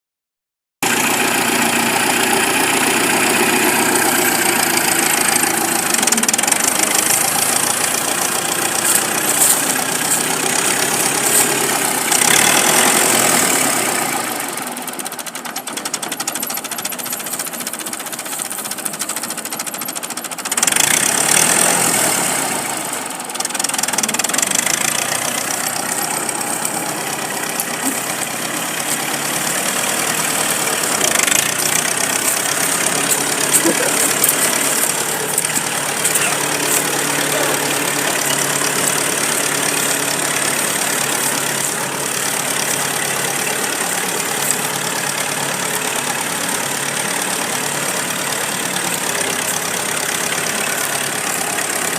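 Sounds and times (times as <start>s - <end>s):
chainsaw engine revving: 0.8s - 15.0s, 20.4s - 51.9s.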